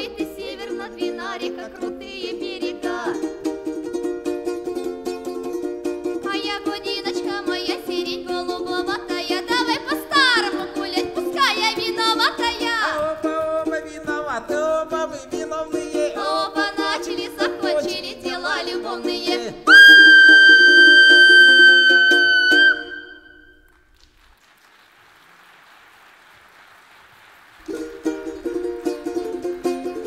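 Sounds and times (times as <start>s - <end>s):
plucked strings: 0.0s - 23.5s, 27.7s - 30.0s
folk dance music: 0.0s - 24.2s, 27.3s - 30.0s.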